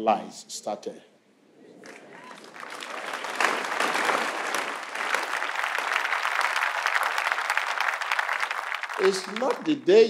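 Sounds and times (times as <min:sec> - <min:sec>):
crowd applauding: 0:01.8 - 0:10.0.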